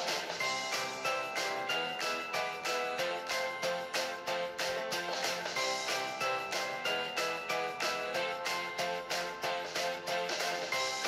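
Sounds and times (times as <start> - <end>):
background music with plucked notes: 0.0 - 11.0.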